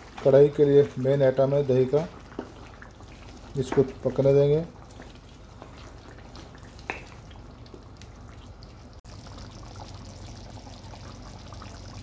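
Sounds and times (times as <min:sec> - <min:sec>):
gravy bubbling and popping: 0:00.0 - 0:12.0.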